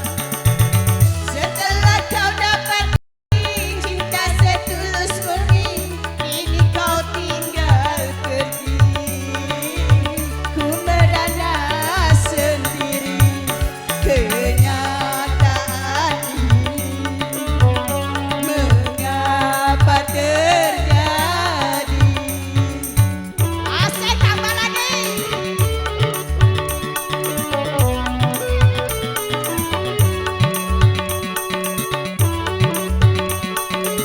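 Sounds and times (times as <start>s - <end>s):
hand-drum beat: 0.0s - 34.0s.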